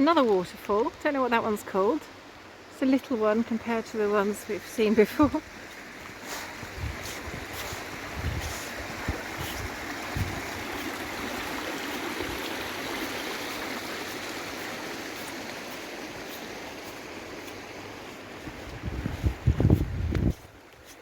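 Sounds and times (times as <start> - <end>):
small waterfall rushing: 0.1 - 21.0.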